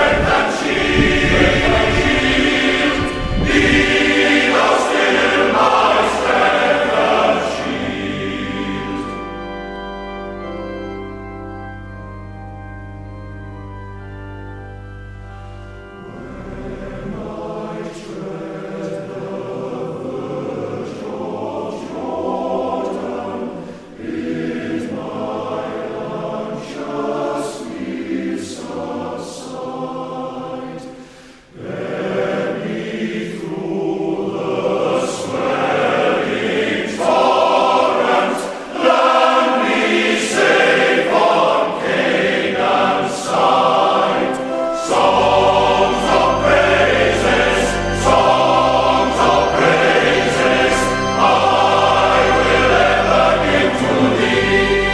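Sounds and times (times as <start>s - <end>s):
choir singing: 0.0s - 10.6s, 15.7s - 54.9s.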